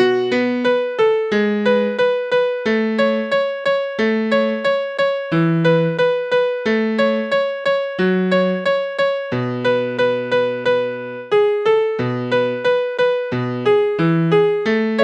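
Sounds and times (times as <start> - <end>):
slow hymn-like piano piece: 0.0 - 15.0.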